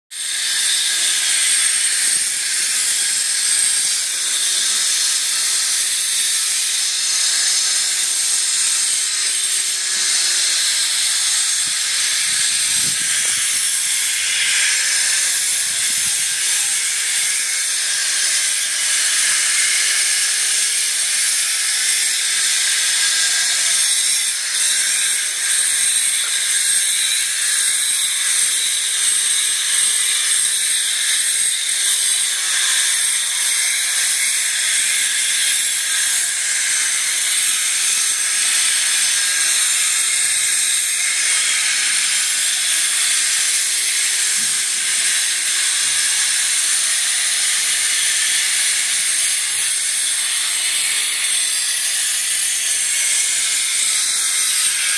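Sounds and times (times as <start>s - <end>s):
stone cutter whining: 0.2s - 54.9s.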